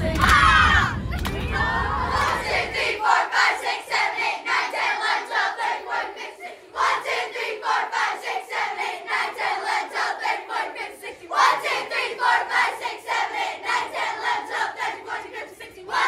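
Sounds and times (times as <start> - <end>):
children chanting and shouting: 0.0 - 16.0.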